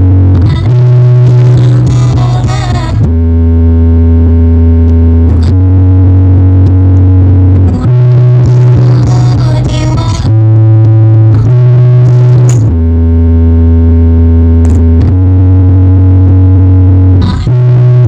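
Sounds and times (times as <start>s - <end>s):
bass-heavy electronic music: 0.0s - 18.0s.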